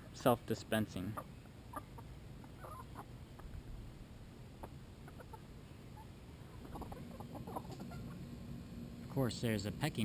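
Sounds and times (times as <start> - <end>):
chickens clucking: 0.0 - 8.8
chickens pecking: 0.8 - 9.1.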